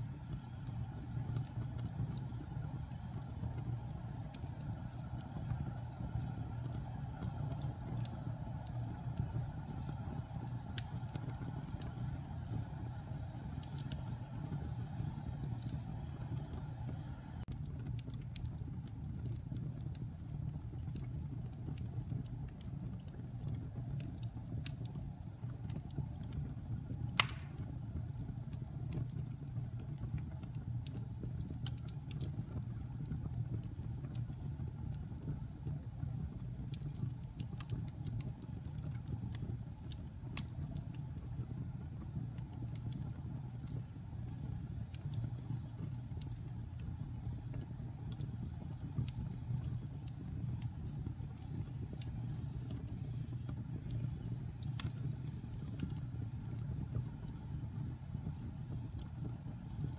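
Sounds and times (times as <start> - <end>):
fire flames rumbling: 0.0 - 59.9
wood fire crackles and pops: 0.0 - 59.9.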